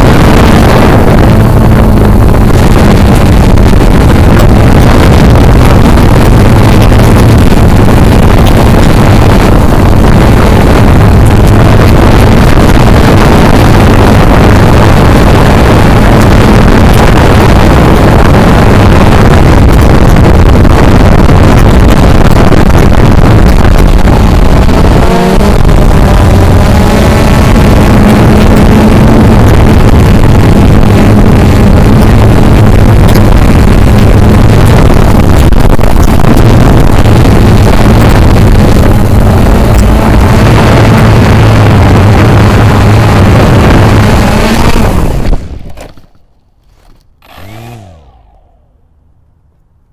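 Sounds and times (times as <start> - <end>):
wind rushing: 0.0 - 45.7
drone propellers buzzing: 0.0 - 49.4.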